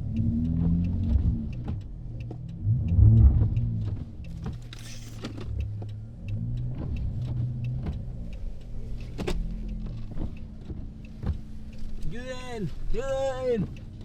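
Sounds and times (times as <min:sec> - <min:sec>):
car engine humming: 0:00.0 - 0:14.0
light clicks and knocks: 0:00.1 - 0:14.0.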